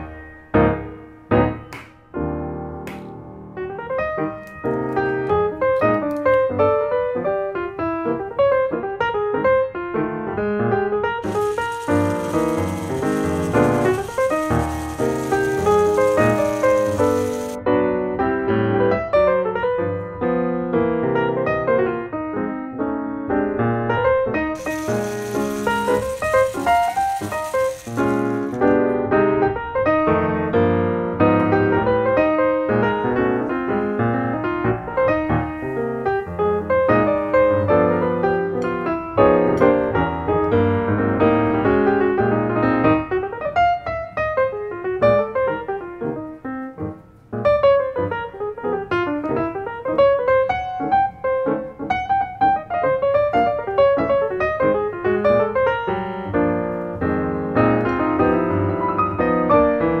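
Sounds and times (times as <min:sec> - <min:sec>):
piano music: 0:00.0 - 1:00.0.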